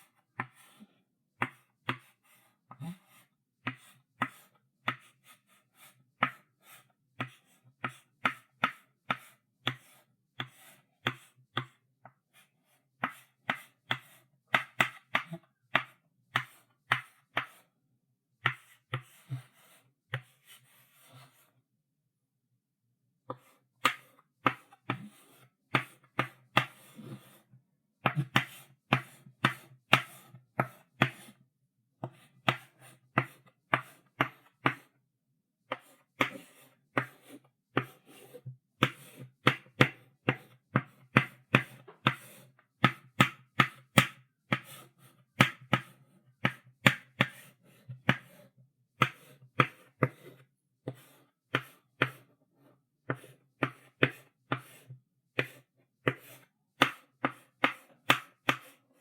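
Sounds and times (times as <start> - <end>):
chalk tapping on blackboard: 1.4 - 2.2, 3.6 - 5.2, 5.8 - 12.2, 13.0 - 17.7, 18.4 - 21.3, 23.3 - 27.4, 28.0 - 31.4, 32.0 - 34.9, 35.7 - 52.3, 53.0 - 58.8.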